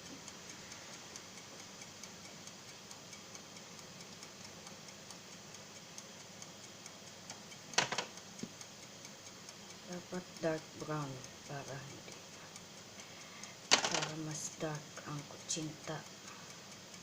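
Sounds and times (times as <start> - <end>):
clock ticking faintly: 0.0 - 17.0.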